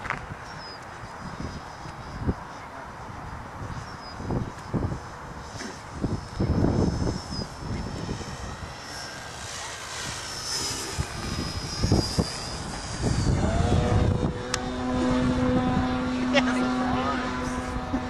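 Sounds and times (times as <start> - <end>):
model airplane engine: 0.0 - 18.0
wind buffeting microphone: 0.0 - 18.0.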